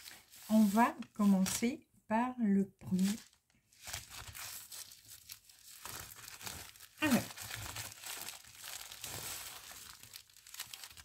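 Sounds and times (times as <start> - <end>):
packaging crinkling and rustling: 0.0 - 1.6, 2.9 - 11.0.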